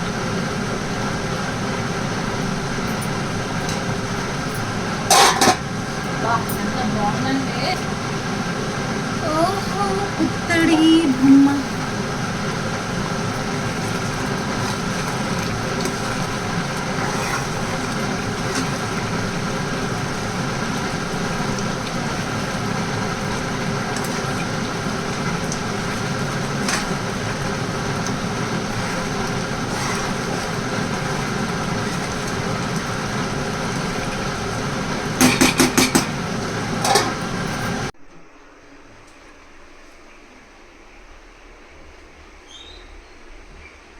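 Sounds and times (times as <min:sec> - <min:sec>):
machine humming: 0:00.0 - 0:38.7.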